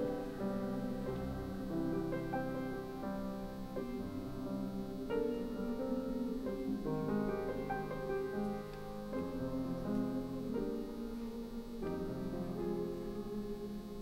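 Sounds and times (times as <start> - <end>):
grand piano playing chords: 0.0 - 14.0.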